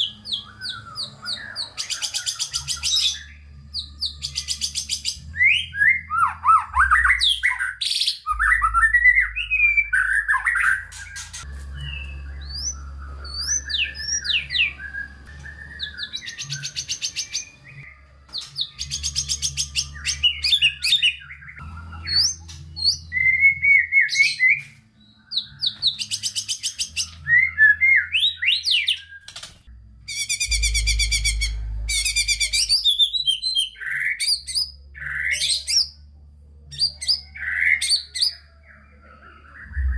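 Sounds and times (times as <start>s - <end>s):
songbird singing: 0.0s - 29.3s, 30.1s - 36.0s, 36.7s - 39.9s.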